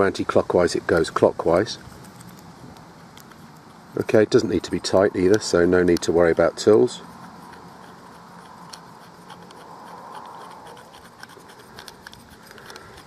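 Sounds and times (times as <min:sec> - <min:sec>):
faint scratching of threads: 0:01.8 - 0:13.0.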